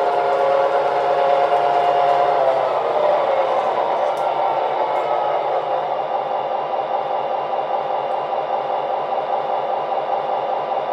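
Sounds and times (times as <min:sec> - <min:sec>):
model locomotive diesel engine rumble: 0:00.0 - 0:10.9.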